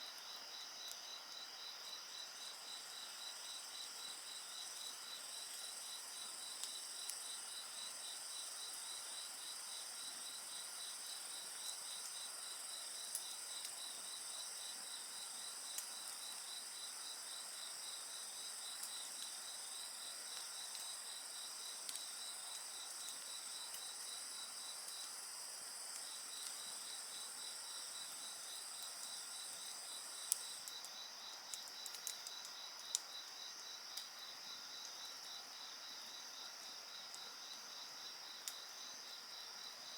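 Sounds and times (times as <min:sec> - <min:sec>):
insects chirping: 0:00.1 - 0:39.9.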